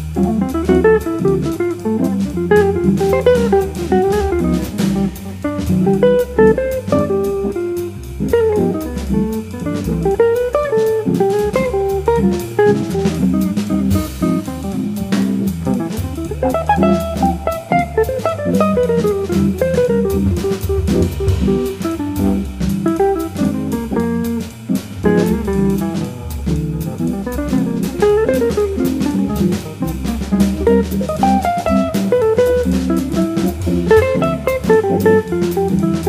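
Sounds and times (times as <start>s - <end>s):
drum kit cymbals: 0.0s - 36.0s
electric jazz guitar lines: 0.0s - 36.0s
organ walking bass line: 0.0s - 36.0s.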